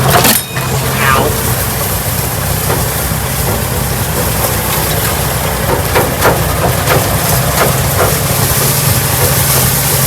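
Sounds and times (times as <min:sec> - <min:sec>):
car engine running: 0:00.0 - 0:10.0
sharp knocks and rattles: 0:01.8 - 0:10.0.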